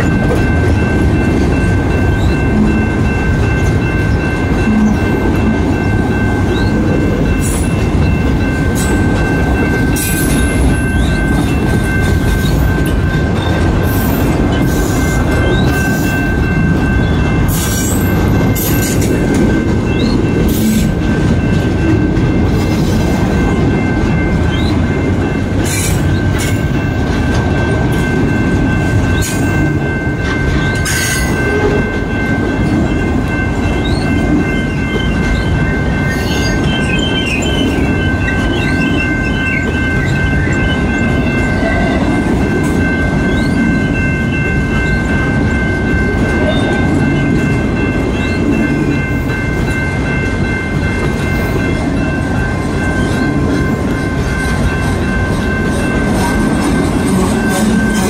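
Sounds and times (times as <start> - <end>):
steady high-pitched tone: 0.0 - 58.0
train wheels rumbling on rail: 0.0 - 58.0.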